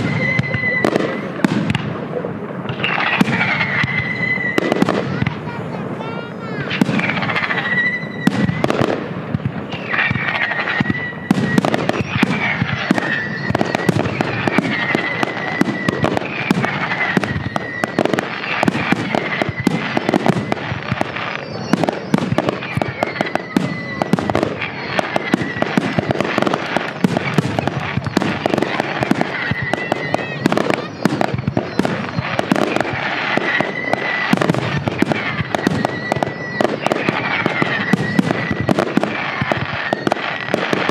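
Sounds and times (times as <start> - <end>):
descending firework whistle: 0.0 - 40.9
fireworks bangs and crackles: 0.0 - 40.9.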